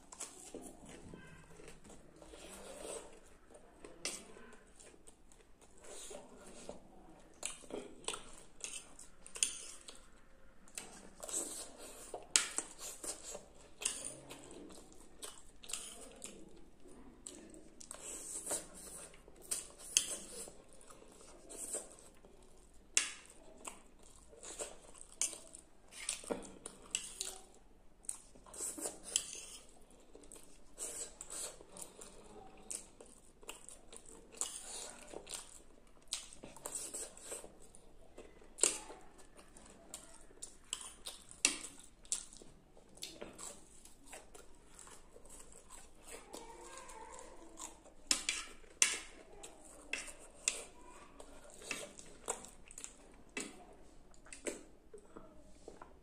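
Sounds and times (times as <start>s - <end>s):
man chewing noodles: 0.0s - 4.0s, 4.6s - 56.0s.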